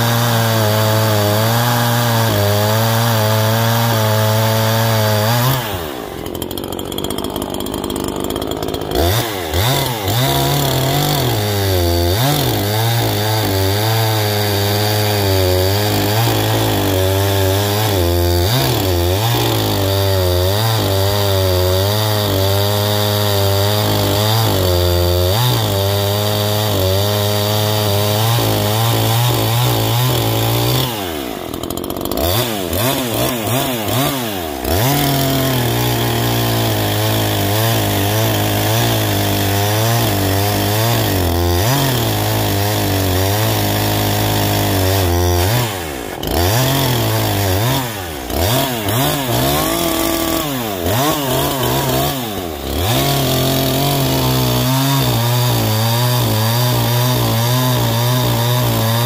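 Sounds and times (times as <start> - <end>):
chainsaw cutting logs: 0.0 - 59.0.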